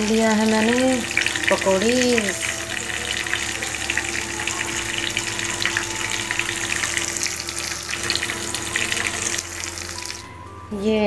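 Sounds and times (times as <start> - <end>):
hot oil sizzling and crackling: 0.0 - 10.3.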